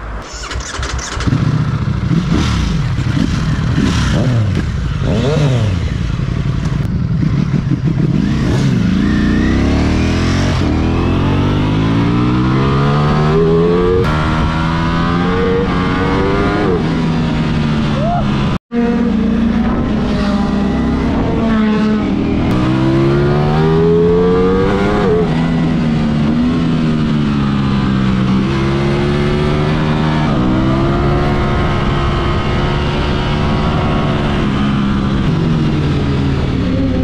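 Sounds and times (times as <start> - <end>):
motorcycle accelerating: 0.2 - 37.0
motorcycle engine revving: 0.4 - 37.0.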